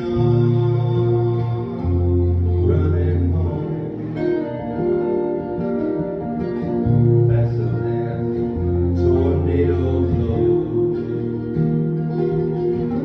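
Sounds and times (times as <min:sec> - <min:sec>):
acoustic guitars playing: 0:00.0 - 0:13.0.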